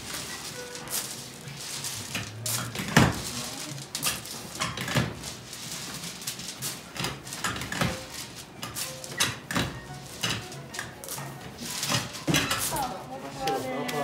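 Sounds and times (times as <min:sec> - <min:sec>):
candy mass thudding and slapping: 0:00.0 - 0:12.9.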